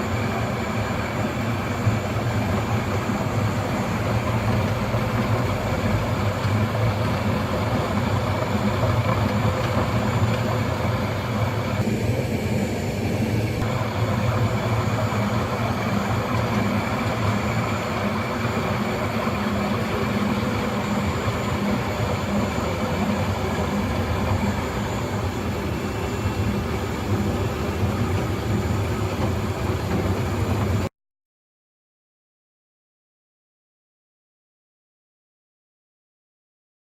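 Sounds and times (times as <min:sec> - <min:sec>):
floor grinder droning: 0:00.0 - 0:30.9.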